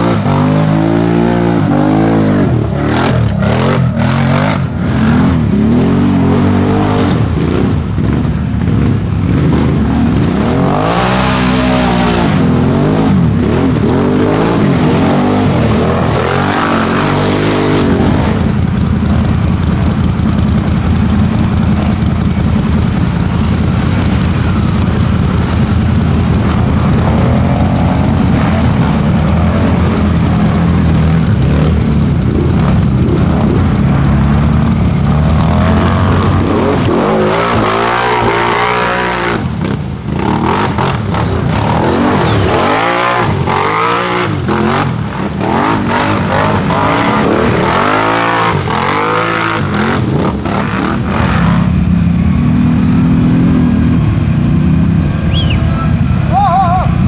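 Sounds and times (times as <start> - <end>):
atv engines revving: 0.0 - 57.0.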